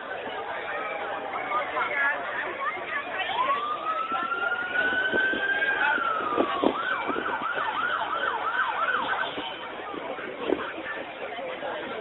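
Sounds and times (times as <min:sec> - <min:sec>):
emergency siren wail and yelp: 0:00.7 - 0:10.6.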